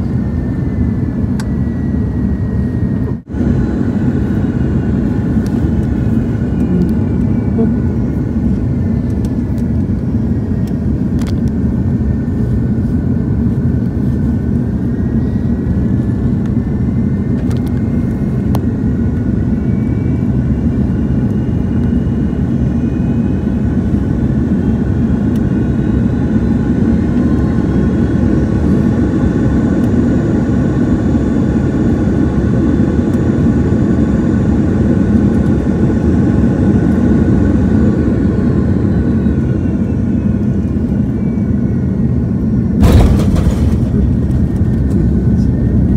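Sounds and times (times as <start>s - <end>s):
aircraft cabin engine rumble: 0.0s - 45.9s
whining engine tones: 0.0s - 45.9s.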